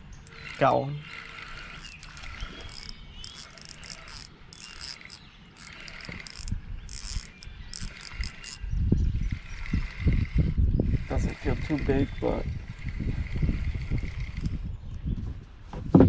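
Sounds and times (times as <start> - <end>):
fishing reel clicking and whirring: 0.0 - 14.7.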